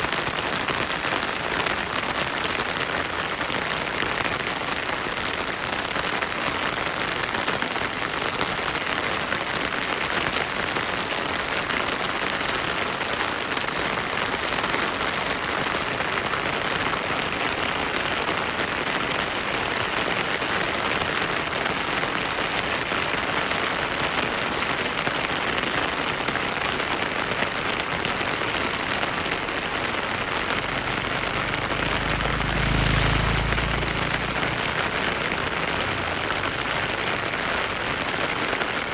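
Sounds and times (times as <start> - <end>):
heavy rain on foliage: 0.0 - 38.9.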